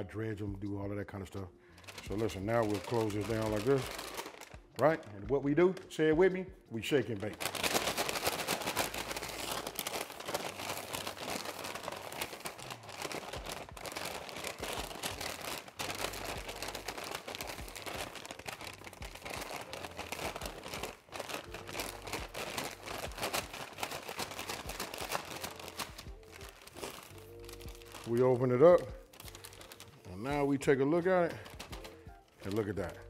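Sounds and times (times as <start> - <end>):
paper bag shaken and rustling: 1.8 - 5.0, 6.8 - 33.0.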